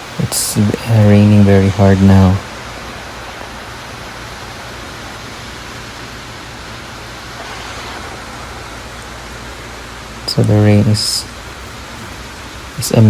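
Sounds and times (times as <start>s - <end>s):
heavy rain pouring down: 0.0s - 13.0s.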